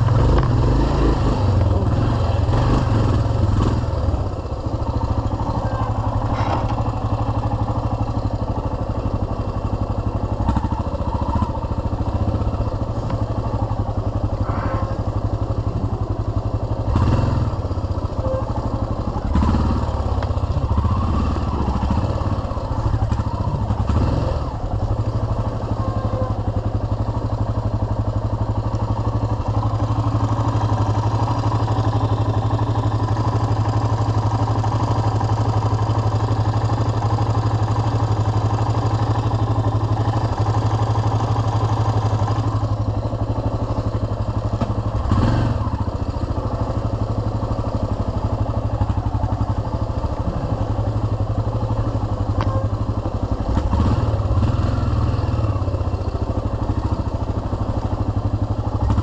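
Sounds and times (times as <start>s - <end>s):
engine surges with clatter: 0.0s - 59.0s
motorcycle engine running: 0.0s - 59.0s.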